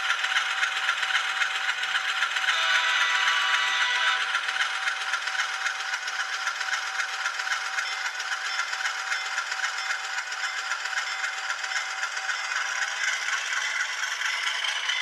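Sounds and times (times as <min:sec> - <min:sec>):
model diesel engine sound chugging: 0:00.0 - 0:15.0.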